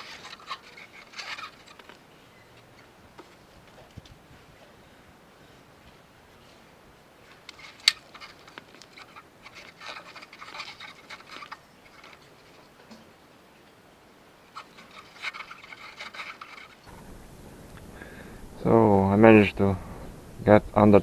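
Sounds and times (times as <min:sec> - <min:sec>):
scraping and rustling: 0:00.0 - 0:13.2, 0:14.4 - 0:18.3.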